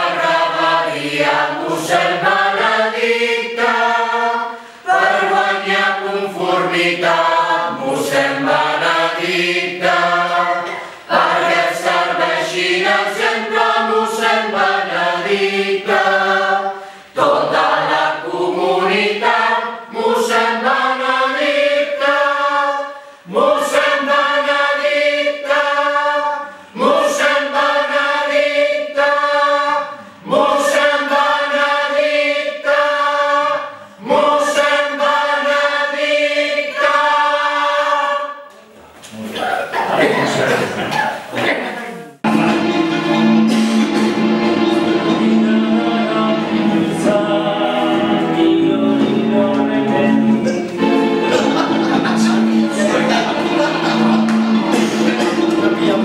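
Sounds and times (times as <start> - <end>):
mixed choir singing unaccompanied: 0.0 - 38.5, 39.6 - 41.6, 42.2 - 56.0.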